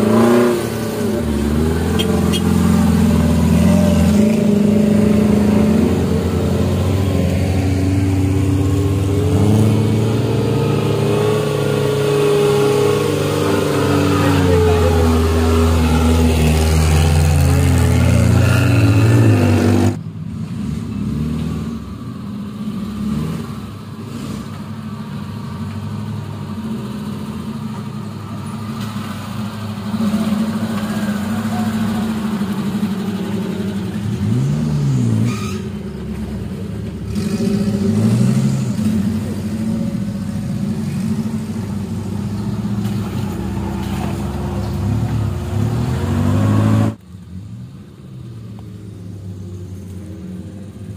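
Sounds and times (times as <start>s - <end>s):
off-road engines revving: 0.0s - 50.9s.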